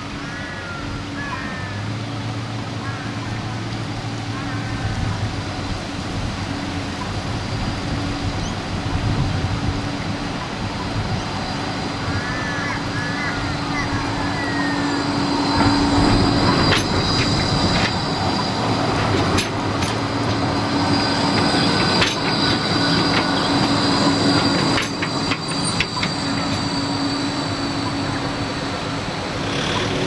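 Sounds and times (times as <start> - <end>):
tram humming and whining: 0.0 - 30.0
tram wheels clicking on rails: 0.0 - 30.0.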